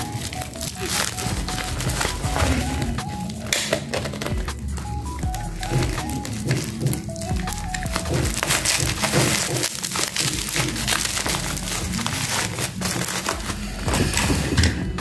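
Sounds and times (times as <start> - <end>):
bubble wrap crinkling: 0.0 - 14.7.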